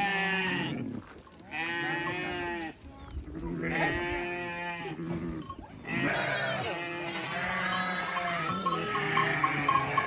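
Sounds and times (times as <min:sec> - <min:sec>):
sheep or goat bleating: 0:00.0 - 0:00.9, 0:01.5 - 0:02.8, 0:03.4 - 0:10.0.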